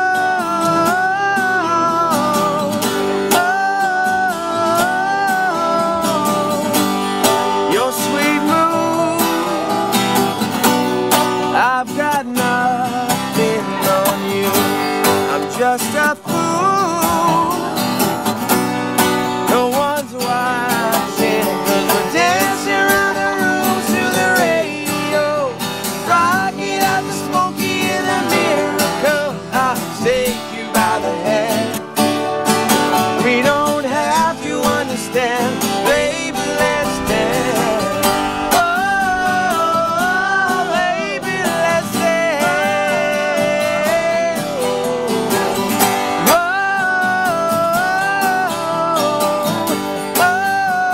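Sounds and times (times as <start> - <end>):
acoustic guitar strumming: 0.0 - 50.9
slide guitar gliding notes: 0.0 - 50.9.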